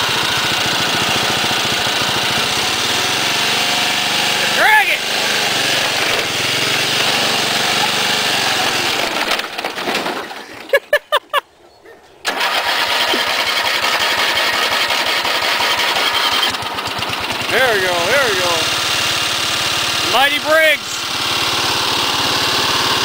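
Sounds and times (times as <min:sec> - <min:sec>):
engine cranking: 0:00.0 - 0:10.8, 0:12.2 - 0:20.3
lawn tractor engine running: 0:00.0 - 0:10.9, 0:12.2 - 0:23.0.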